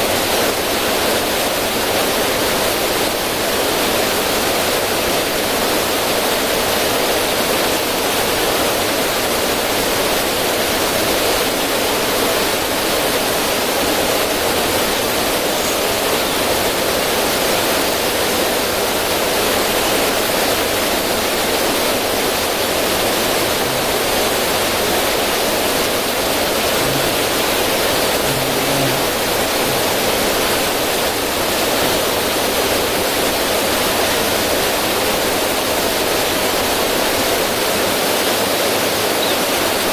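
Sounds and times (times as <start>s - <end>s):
water cascading over rocks: 0.0s - 39.9s.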